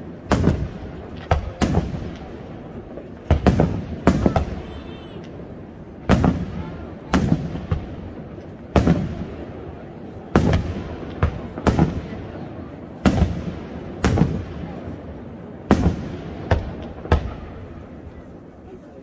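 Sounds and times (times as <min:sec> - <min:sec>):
firework shells booming: 0:00.0 - 0:14.9, 0:15.6 - 0:18.1.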